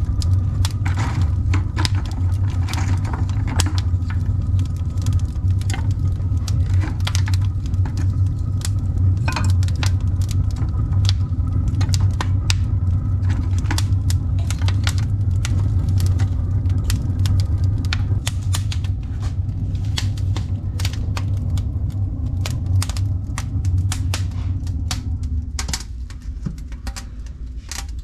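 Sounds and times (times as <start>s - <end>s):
firewood crackling and popping: 0.0s - 28.0s
low stove rumble: 0.0s - 28.0s.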